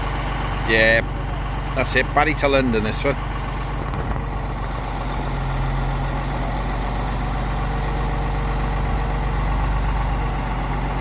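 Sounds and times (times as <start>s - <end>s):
crane engine humming: 0.0s - 11.0s.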